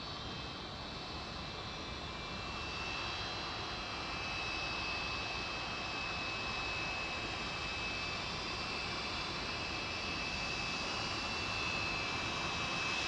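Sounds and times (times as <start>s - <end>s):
jet engine running: 0.2s - 13.0s.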